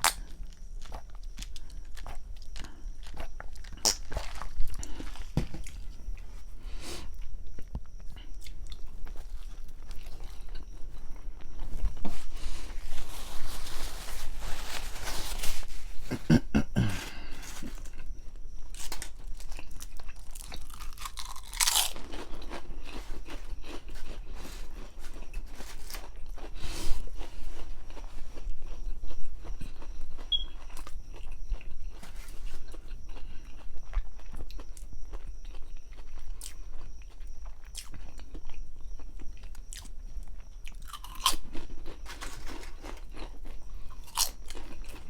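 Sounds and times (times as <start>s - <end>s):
sandwich being chewed: 0.0s - 45.0s.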